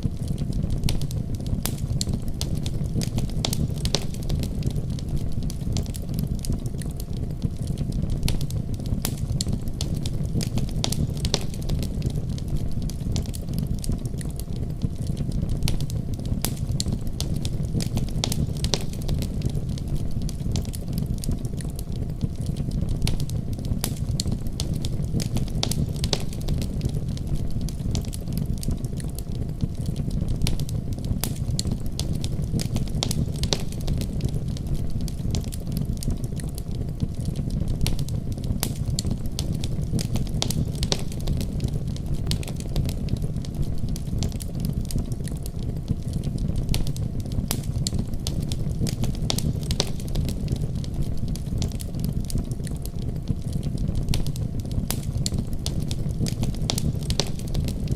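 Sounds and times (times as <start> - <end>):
fire crackling and popping: 0.0 - 57.9
low rumble of flames: 0.0 - 57.9.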